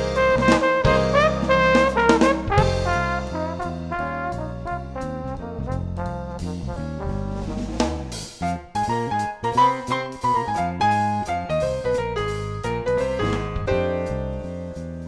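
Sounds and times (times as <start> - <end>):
jazzy brass music: 0.0 - 15.0.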